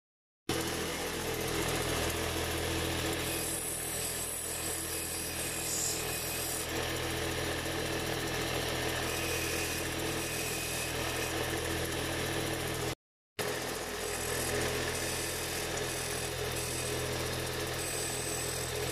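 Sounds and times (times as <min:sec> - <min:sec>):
grinding wheel motor hum: 0:00.5 - 0:18.9.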